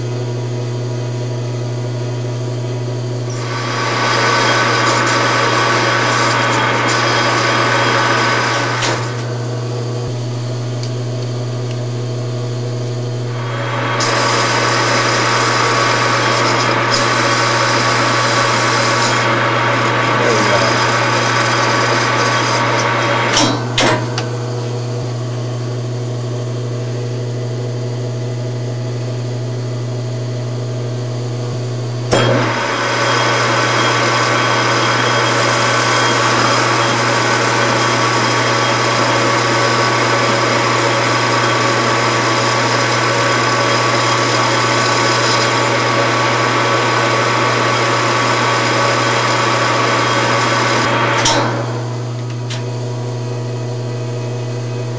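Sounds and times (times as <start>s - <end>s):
lathe tool cutting metal: 0.0s - 25.4s, 31.3s - 54.9s
metal lathe humming: 0.0s - 54.9s.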